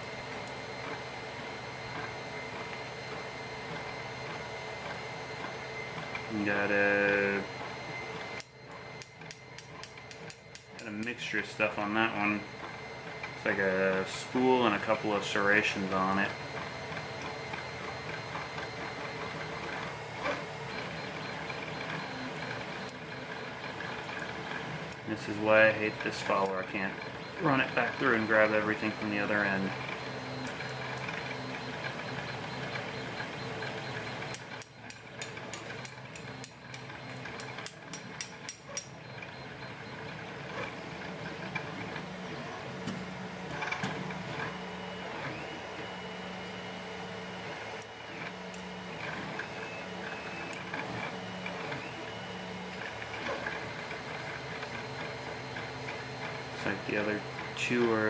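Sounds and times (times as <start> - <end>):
printers whirring: 0.0 - 58.0.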